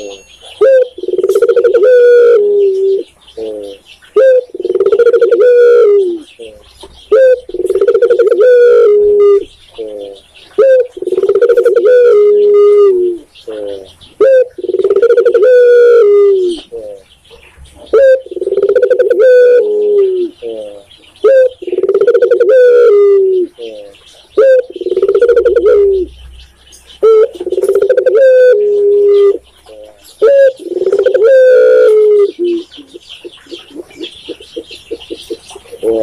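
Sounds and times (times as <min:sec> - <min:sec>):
dove cooing: 0:00.0 - 0:26.4, 0:27.0 - 0:36.0.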